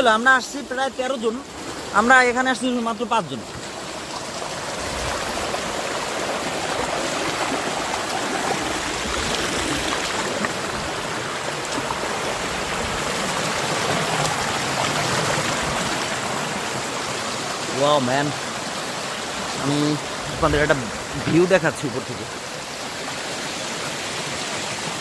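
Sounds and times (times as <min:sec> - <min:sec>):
stream rushing and gurgling: 0:00.0 - 0:25.0.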